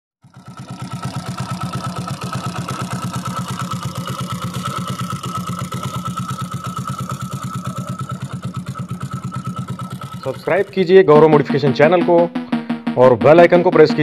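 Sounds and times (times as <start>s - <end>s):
motorcycle engine idling: 0.2s - 12.5s.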